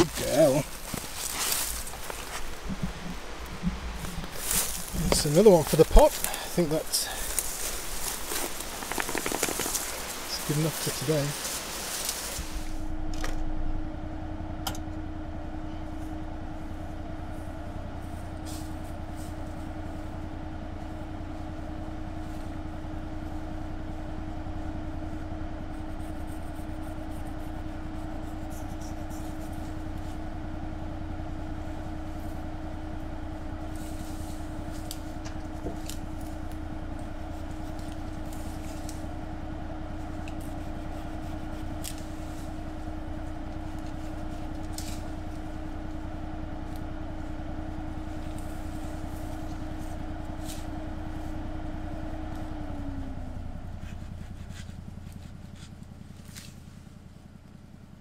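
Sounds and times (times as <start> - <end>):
engine droning with whine: 0.0 - 58.0.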